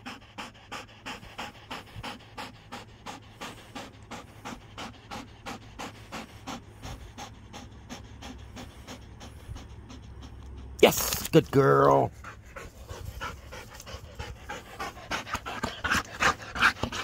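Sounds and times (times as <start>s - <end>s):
dog panting rapidly: 0.0s - 17.0s.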